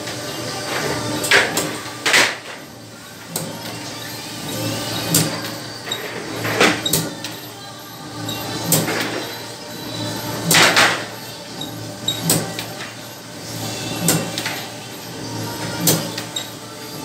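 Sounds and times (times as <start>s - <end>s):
dough rounding machine motor hum: 0.0s - 17.0s.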